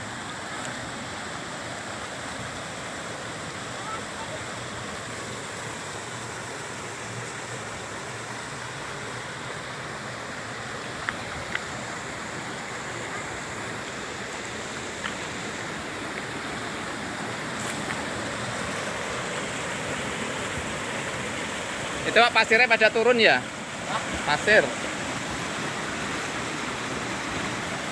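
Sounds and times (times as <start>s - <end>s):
waterfall stream rushing: 0.0s - 27.9s.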